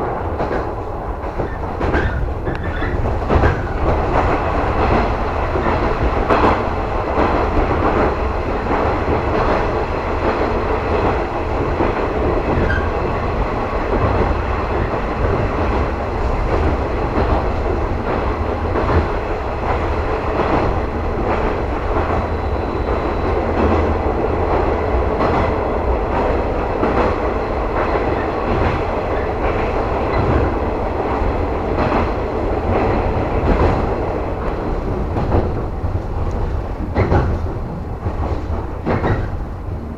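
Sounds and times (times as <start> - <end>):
train rumbling at speed: 0.0 - 39.9
wheels clacking over rail joints: 0.4 - 39.9.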